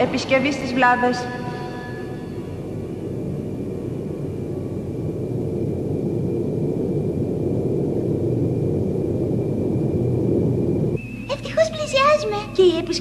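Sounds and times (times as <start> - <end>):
faint high whine: 0.0 - 13.0
spaceship engine rumble: 0.0 - 13.0.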